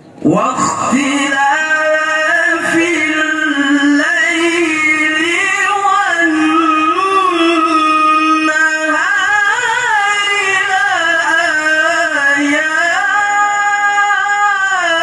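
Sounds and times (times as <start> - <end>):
man reciting melodically into microphone: 0.1 - 15.0.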